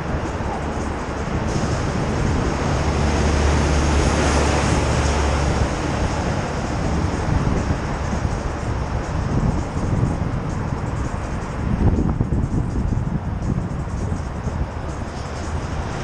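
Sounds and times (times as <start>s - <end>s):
deep rumble: 0.0s - 16.0s
wind rushing over camera: 0.0s - 16.0s.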